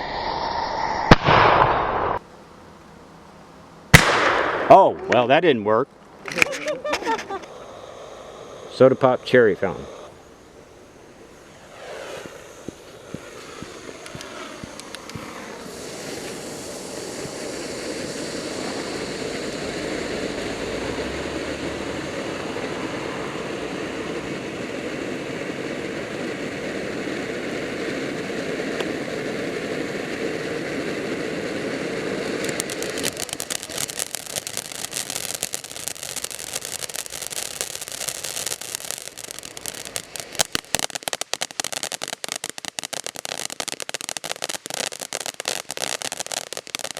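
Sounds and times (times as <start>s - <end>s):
firework rapid crackling: 0.0s - 2.2s, 3.9s - 5.4s, 6.2s - 46.9s
firework fountain hissing: 0.0s - 46.9s.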